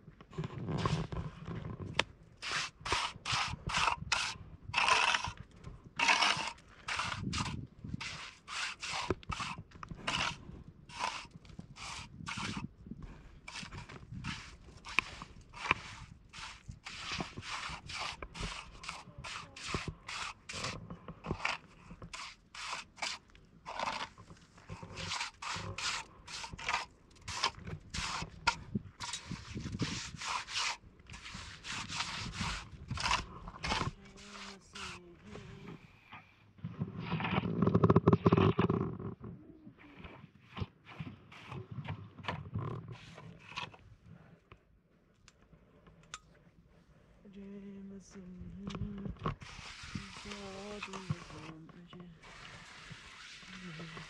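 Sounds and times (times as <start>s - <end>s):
repeated scraping strokes: 0.3s - 39.2s, 39.8s - 44.4s, 46.7s - 54.0s.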